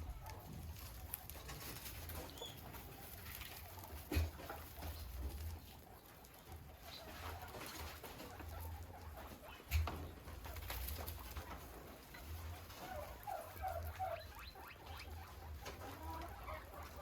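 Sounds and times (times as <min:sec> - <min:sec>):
guinea pigs rustling in bedding: 0:00.0 - 0:17.0.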